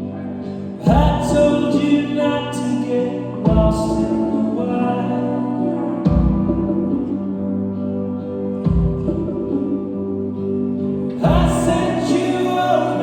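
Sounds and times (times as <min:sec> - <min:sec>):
live band music: 0:00.0 - 0:13.0
person singing a melody: 0:00.7 - 0:07.8, 0:08.7 - 0:13.0.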